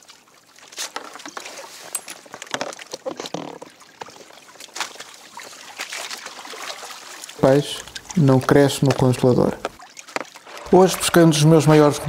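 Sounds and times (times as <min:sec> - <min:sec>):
water splashing beside kayak: 0:00.0 - 0:12.0.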